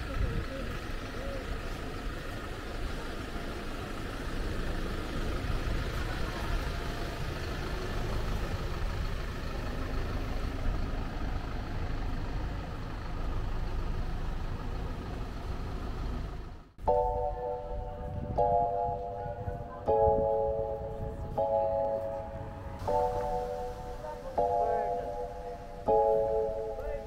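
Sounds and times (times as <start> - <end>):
low street ambience rumble: 0.0 - 27.0.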